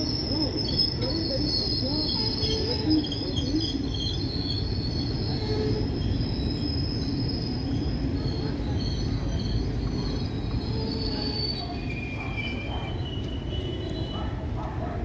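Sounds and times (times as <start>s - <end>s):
high-pitched wheel squeal: 0.0s - 14.4s
train wheels rumbling on rails: 0.0s - 15.0s.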